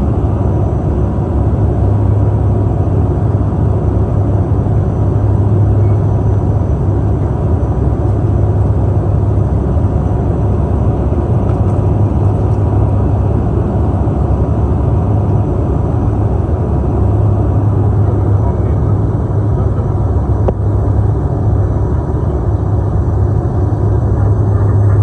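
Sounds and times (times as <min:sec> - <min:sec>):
propeller aircraft cabin drone: 0:00.0 - 0:25.0.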